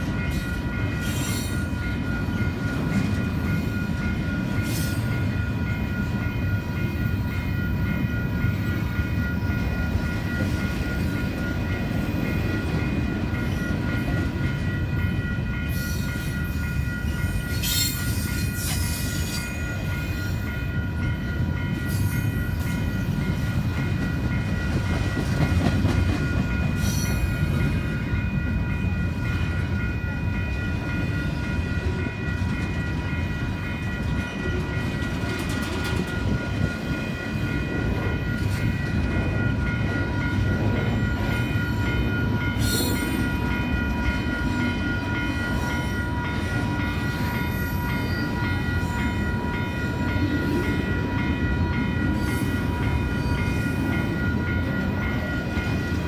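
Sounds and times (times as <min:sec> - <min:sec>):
crossing bell ringing: 0:00.0 - 0:56.0
freight train rolling past: 0:00.0 - 0:56.0
train cars clanking: 0:00.0 - 0:56.0.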